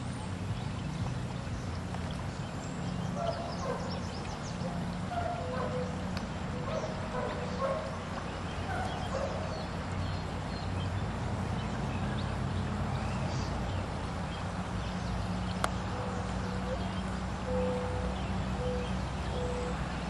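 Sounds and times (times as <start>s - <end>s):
rushing floodwater: 0.0s - 20.0s.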